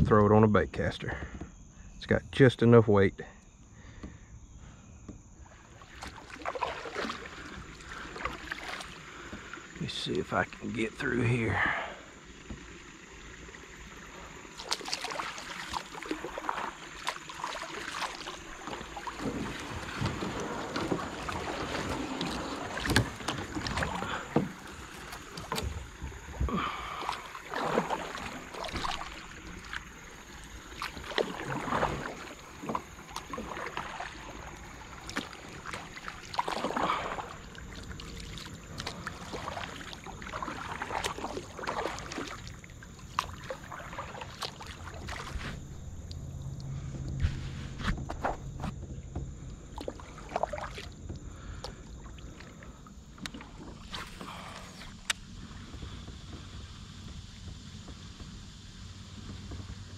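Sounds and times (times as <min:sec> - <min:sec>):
paddle splashing through water: 0:05.4 - 0:59.9.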